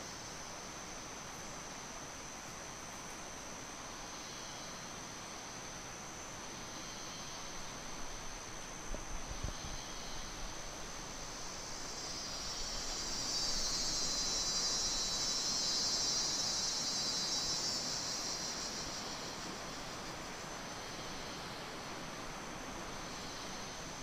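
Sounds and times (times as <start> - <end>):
high-pitched insect tone: 0.0 - 24.0
shrill insect chorus: 0.0 - 24.0.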